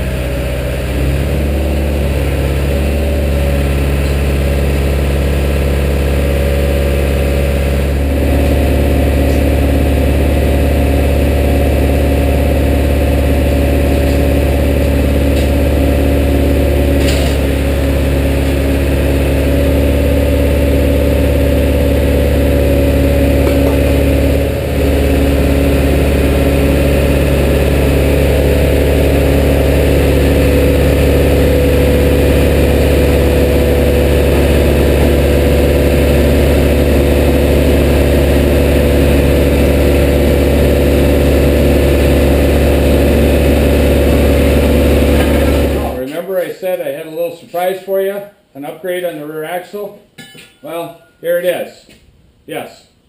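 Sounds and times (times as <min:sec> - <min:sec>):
truck engine idling: 0:00.0 - 0:46.0.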